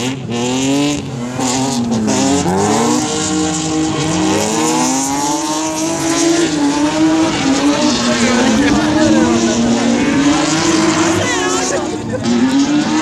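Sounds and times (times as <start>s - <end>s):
rally car engines revving: 0.0s - 13.0s.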